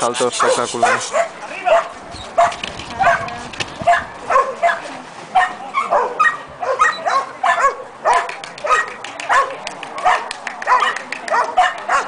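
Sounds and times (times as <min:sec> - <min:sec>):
dog barking: 0:00.4 - 0:12.0.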